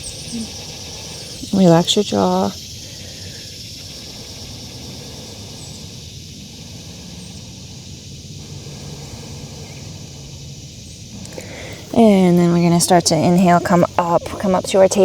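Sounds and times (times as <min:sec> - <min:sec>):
cicadas droning: 0:00.0 - 0:15.0
low steady hum: 0:00.0 - 0:15.0.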